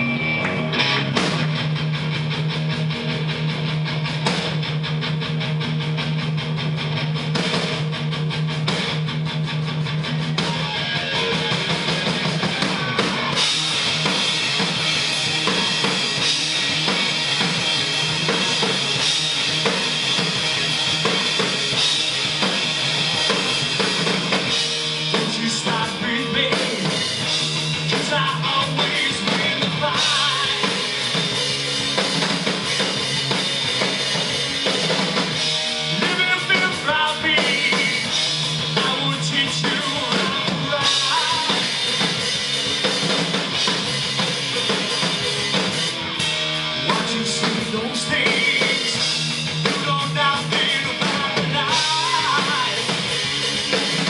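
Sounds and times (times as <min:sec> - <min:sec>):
drum kit: 0:00.0 - 0:54.0
electric guitar: 0:00.0 - 0:54.0.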